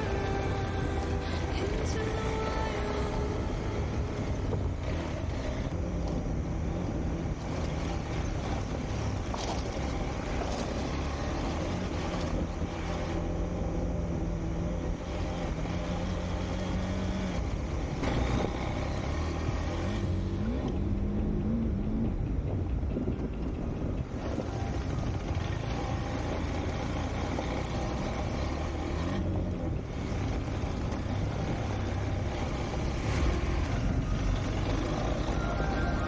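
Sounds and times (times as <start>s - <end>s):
motorcycle engine running: 0.0s - 35.8s
road and wind noise: 0.0s - 36.0s.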